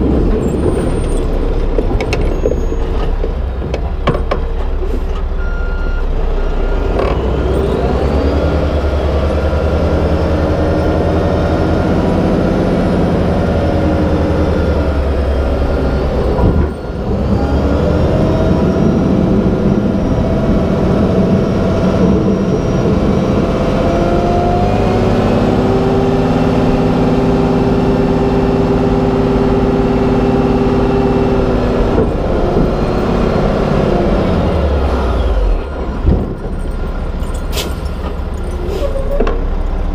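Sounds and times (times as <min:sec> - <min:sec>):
diesel truck engine under load: 0:00.0 - 0:39.9
rushing noise of moving truck: 0:00.0 - 0:39.9.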